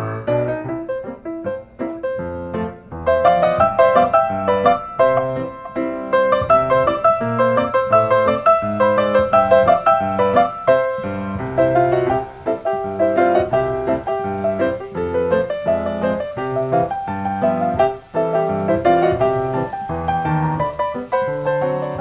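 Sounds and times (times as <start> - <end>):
lively piano music: 0.0 - 22.0.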